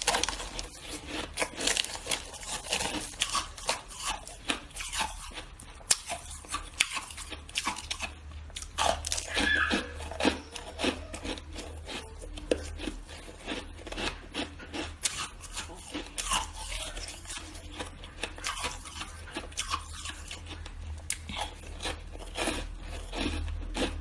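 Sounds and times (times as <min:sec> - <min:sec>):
ice chewing crunches: 0:00.0 - 0:24.0.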